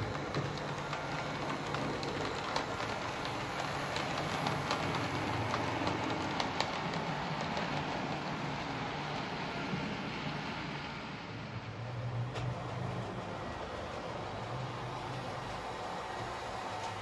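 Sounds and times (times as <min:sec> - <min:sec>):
model train running hum: 0:00.0 - 0:17.0.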